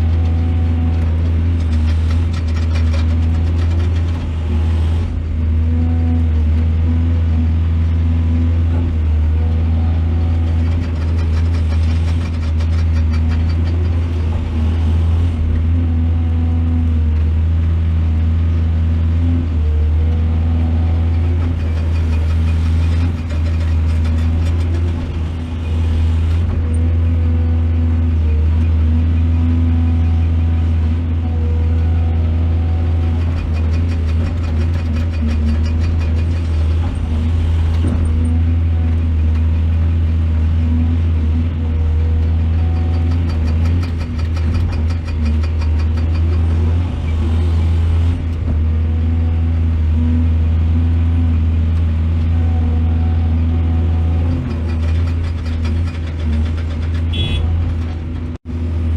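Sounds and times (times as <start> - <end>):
excavator diesel engine rumbling: 0.0 - 58.9.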